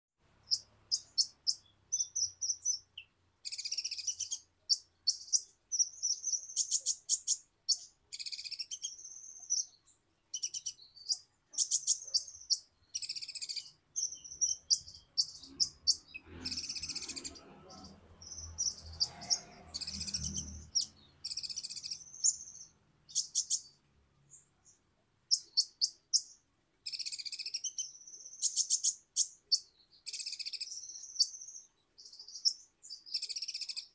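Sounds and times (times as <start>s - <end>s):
sunbird chirps and buzzy trills: 0.4s - 33.9s.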